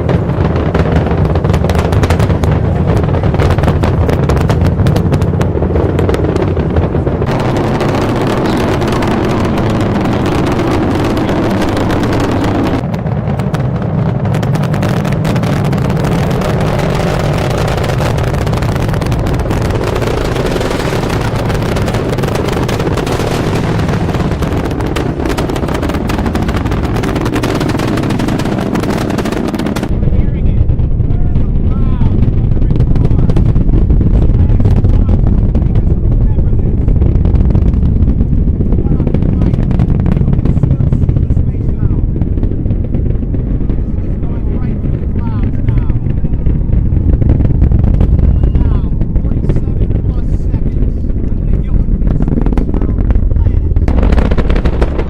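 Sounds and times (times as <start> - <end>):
rocket engines roaring: 0.0 - 55.0.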